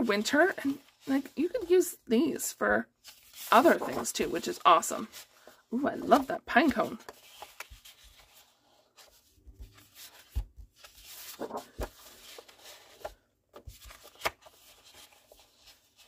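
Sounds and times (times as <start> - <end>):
paper rustling: 0.0 - 1.8, 3.0 - 16.0.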